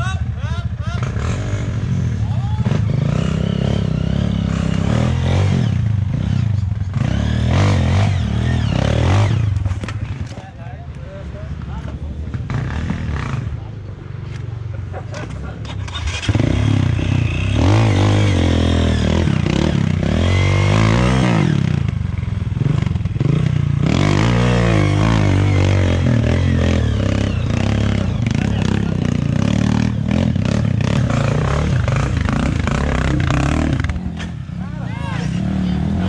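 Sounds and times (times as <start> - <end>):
dirt bike engine revving: 0.0 - 10.4, 11.8 - 13.7, 15.1 - 36.0.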